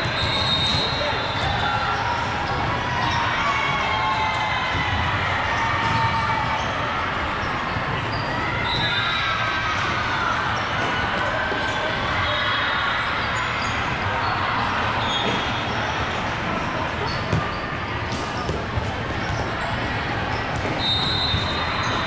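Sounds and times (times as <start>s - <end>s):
murmur of many voices: 0.0s - 22.0s.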